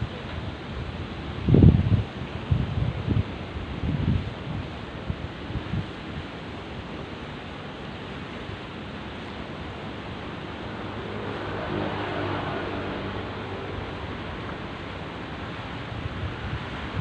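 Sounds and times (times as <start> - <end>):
wind buffeting microphone: 0.0 - 7.0, 9.4 - 17.0
sea waves washing: 3.3 - 17.0.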